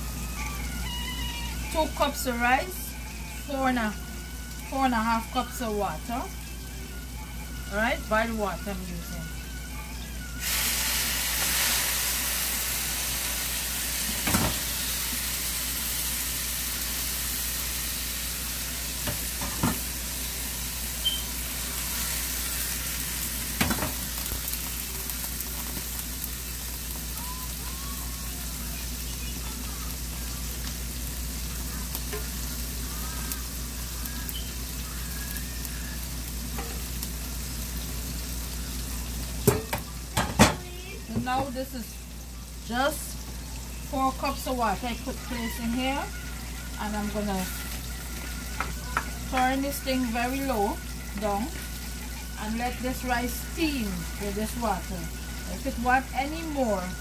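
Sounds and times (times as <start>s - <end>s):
chicken frying in oil: 0.0s - 57.0s.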